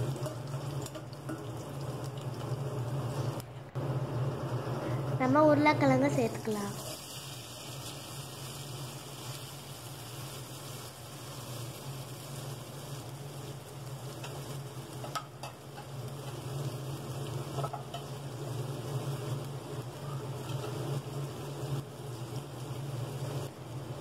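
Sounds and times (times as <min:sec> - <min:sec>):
potatoes sizzling in oil: 0:00.0 - 0:24.0.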